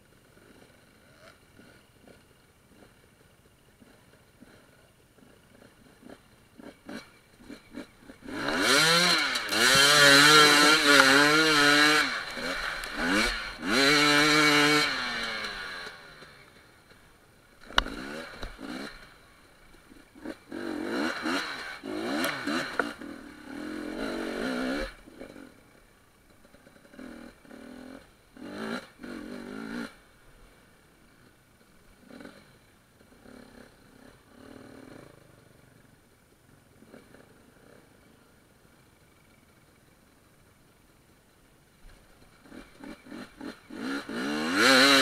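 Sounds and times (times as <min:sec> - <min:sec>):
motorcycle engine revving: 0:00.1 - 0:40.4, 0:41.8 - 0:45.0.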